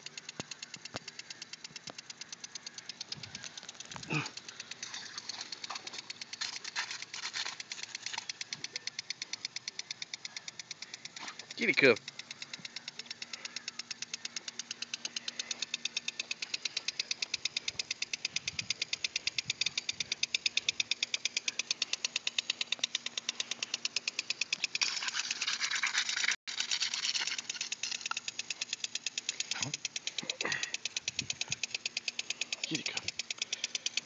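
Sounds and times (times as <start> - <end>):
lawn sprinkler ticking: 0.0 - 34.0
sprinkler hiss: 0.0 - 34.0.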